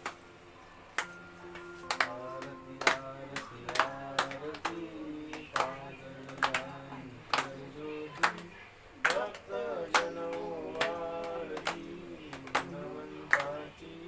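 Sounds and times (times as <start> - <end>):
hands clapping: 0.0 - 0.3, 0.9 - 13.8
devotional singing: 1.8 - 14.0.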